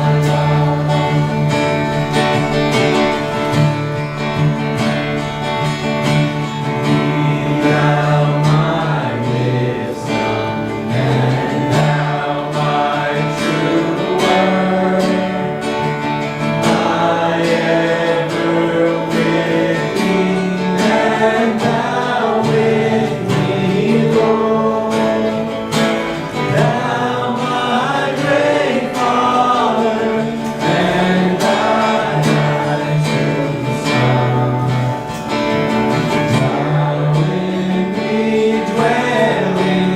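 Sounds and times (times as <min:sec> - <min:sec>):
acoustic guitar strumming: 0:00.0 - 0:39.9
voices singing: 0:00.0 - 0:39.9.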